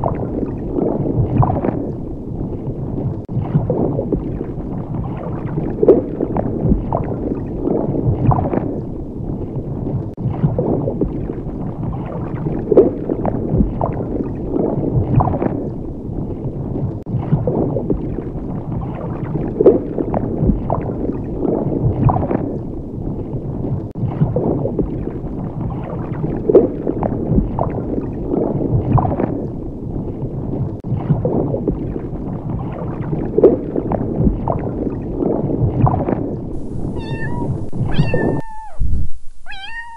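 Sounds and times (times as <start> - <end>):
underwater gurgling and bubbling: 0.0 - 39.1.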